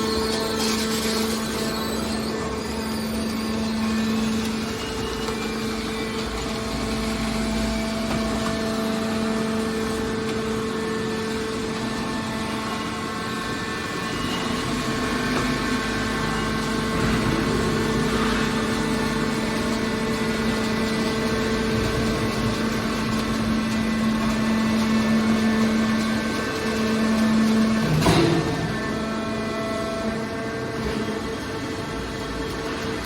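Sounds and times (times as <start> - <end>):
hydraulic baler machinery humming: 0.0 - 33.0.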